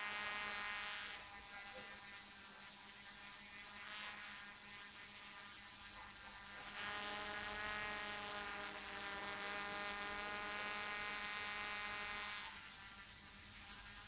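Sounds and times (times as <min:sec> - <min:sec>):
quadcopter propellers buzzing: 0:00.0 - 0:14.0.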